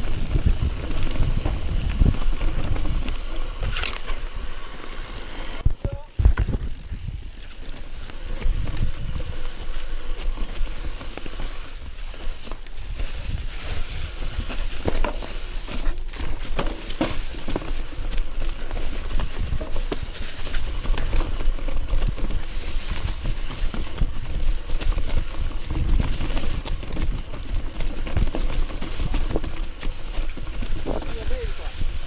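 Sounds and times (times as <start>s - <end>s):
bike rattling over stones: 0.0s - 32.0s
tyres crunching through dry leaves: 0.0s - 32.0s.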